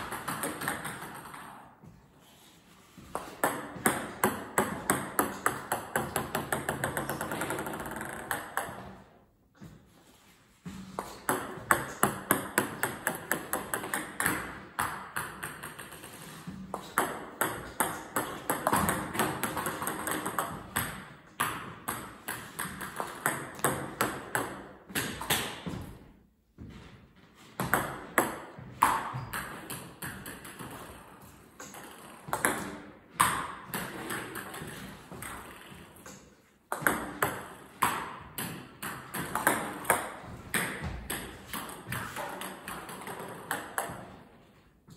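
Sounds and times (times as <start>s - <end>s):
table tennis balls bouncing: 0.0s - 44.9s.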